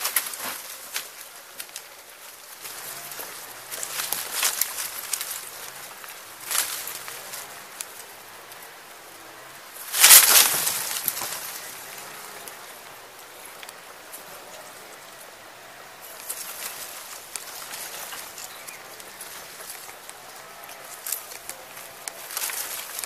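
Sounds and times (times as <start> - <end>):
crackling and rustling: 0.0 - 23.0.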